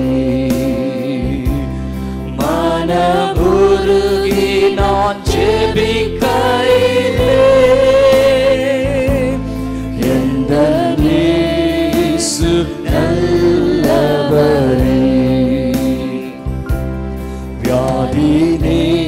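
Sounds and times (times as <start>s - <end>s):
instrumental accompaniment: 0.8s - 19.0s.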